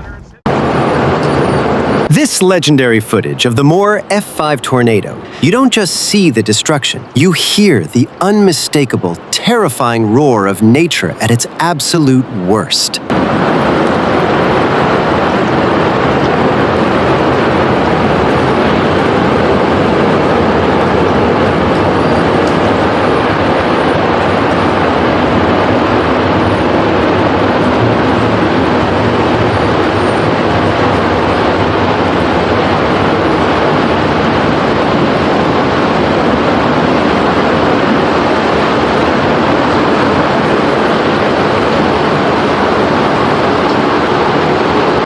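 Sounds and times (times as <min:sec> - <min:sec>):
tornado roaring: 0:00.0 - 0:45.0.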